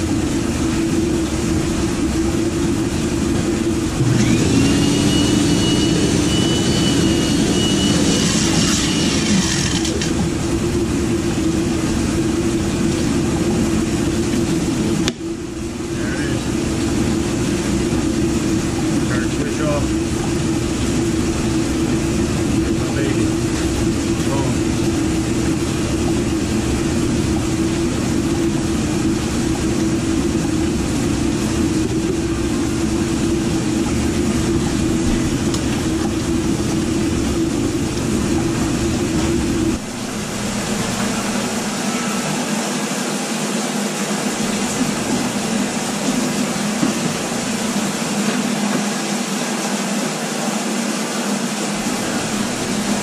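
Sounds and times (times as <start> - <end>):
drain machine motor humming: 0.0 - 53.0.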